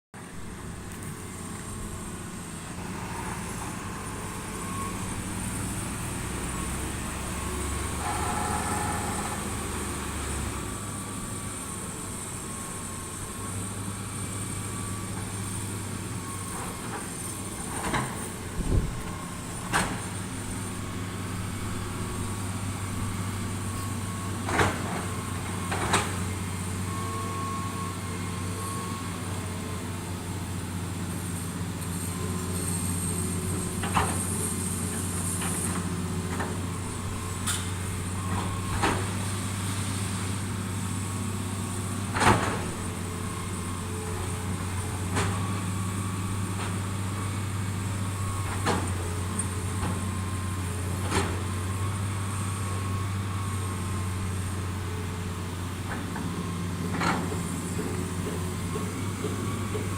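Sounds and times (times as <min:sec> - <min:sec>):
diesel machinery running: 0:00.2 - 0:59.9.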